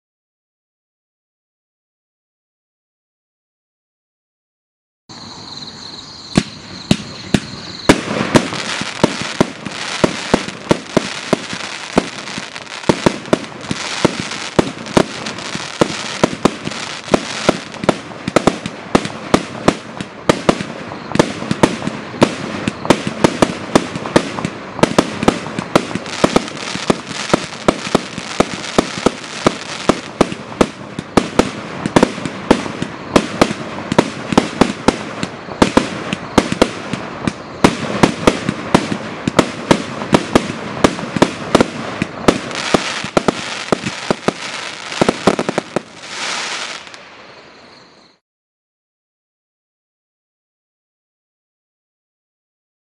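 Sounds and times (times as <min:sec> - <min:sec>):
crackling hissing fireworks: 0:05.1 - 0:48.2.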